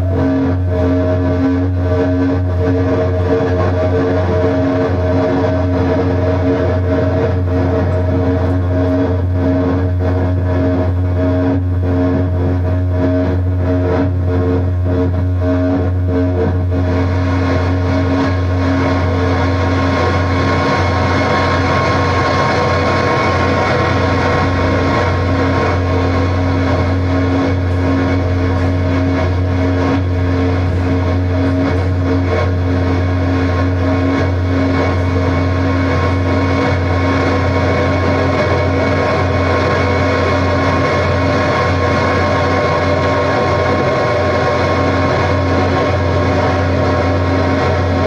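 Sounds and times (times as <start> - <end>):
droning noise music: 0.0 - 48.0.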